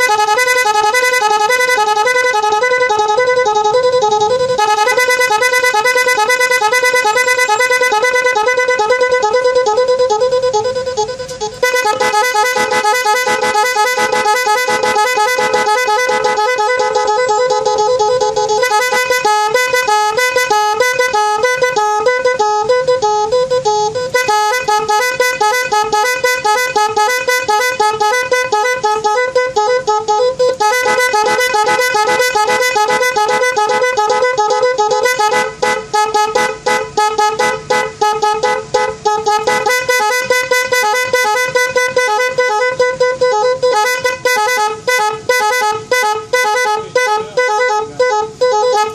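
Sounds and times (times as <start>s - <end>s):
electric vehicle horn: 0.0s - 48.9s.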